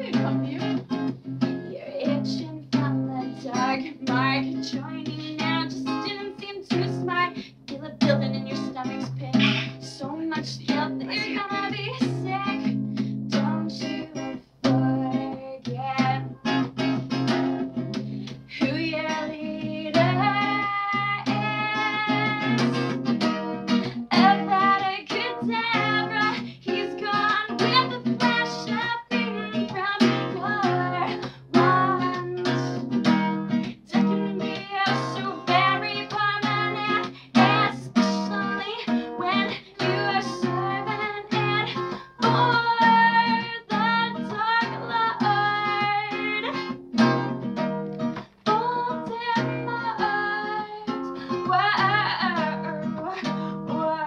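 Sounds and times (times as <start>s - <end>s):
acoustic guitar strumming: 0.0s - 54.0s
woman singing: 0.0s - 54.0s.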